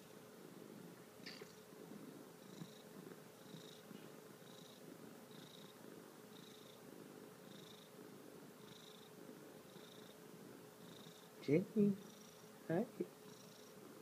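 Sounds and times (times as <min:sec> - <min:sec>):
cat purring: 0:00.4 - 0:14.0.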